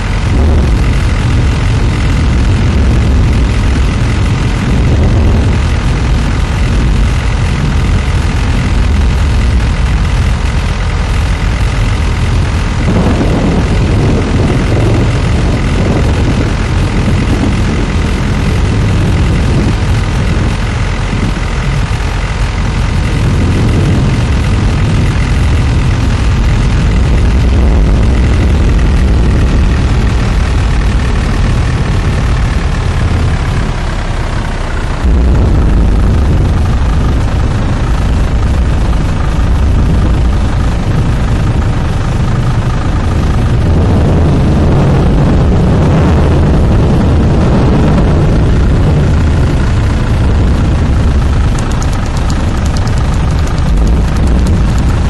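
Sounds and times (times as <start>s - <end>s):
roar of tornado wind: 0.0s - 55.0s
vehicle engine running: 0.0s - 55.0s.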